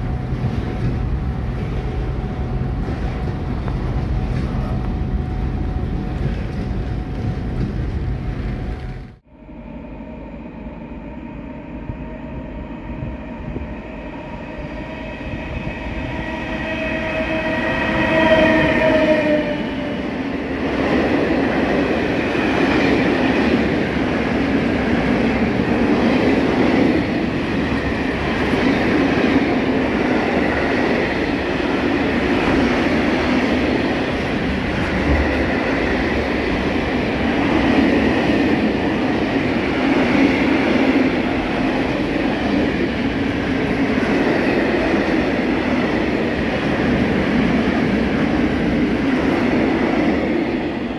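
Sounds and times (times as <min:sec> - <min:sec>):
train wheels rumbling on rail: 0:00.0 - 0:09.3, 0:11.8 - 0:50.9.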